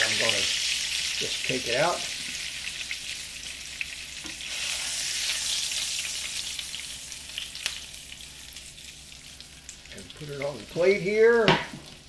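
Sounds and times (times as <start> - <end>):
fish frying in a pan: 0.0 - 11.3.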